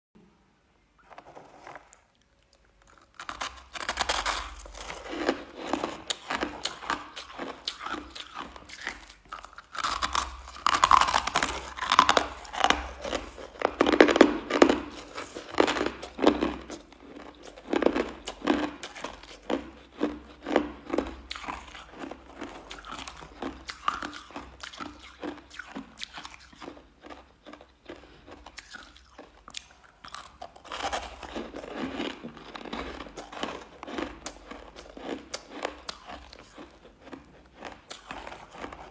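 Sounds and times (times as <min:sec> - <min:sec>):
ice crunching being chewed: 0:01.0 - 0:38.9.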